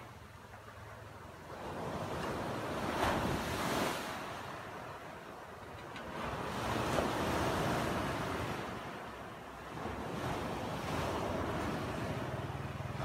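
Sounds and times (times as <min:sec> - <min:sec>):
surf breaking on beach: 0:01.5 - 0:13.0
wind buffeting microphone: 0:01.5 - 0:13.0.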